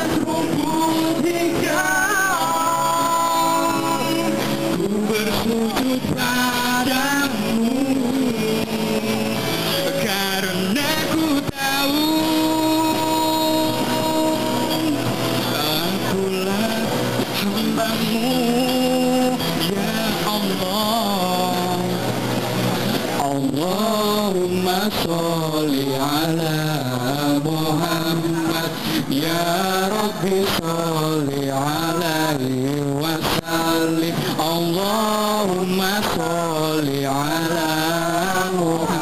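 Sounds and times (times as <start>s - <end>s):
man singing: 0.0s - 22.3s, 22.9s - 39.0s
guitars: 0.0s - 39.0s.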